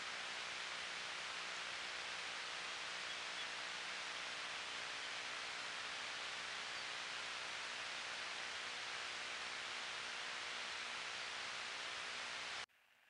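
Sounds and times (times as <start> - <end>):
microphone hiss: 0.0 - 13.0.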